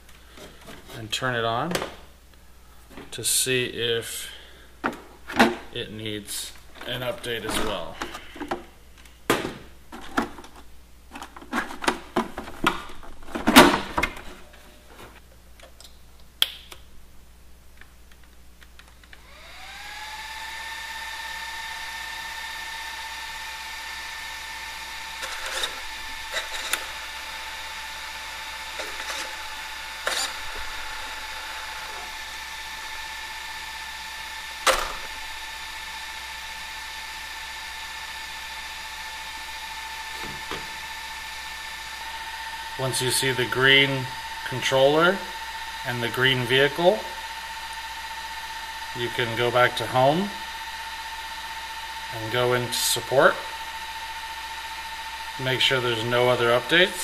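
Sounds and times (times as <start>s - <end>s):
small cooling fan whining: 0.0s - 57.0s.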